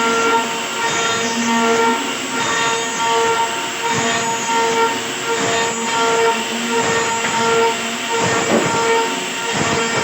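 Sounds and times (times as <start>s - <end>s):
machine whining: 0.0s - 10.0s.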